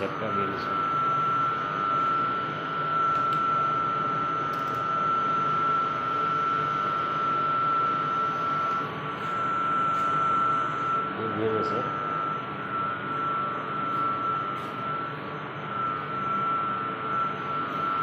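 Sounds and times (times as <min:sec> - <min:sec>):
high-pitched whine: 0:00.0 - 0:18.0
power plant machinery drone: 0:00.0 - 0:18.0.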